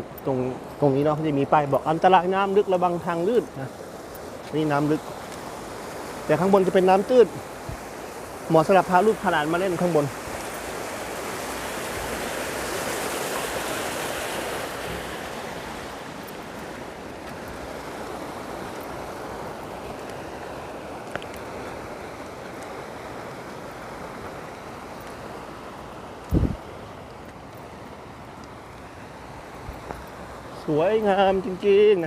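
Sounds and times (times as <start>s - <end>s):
waterfall and stream rushing: 0.0s - 32.0s.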